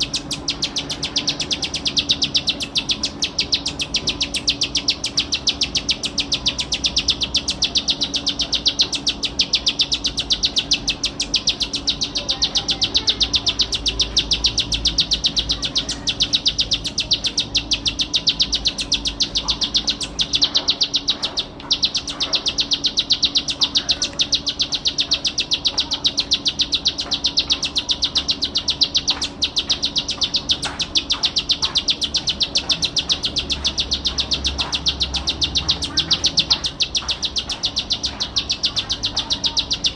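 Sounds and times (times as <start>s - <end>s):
bird singing rapid trill: 0.0s - 39.9s.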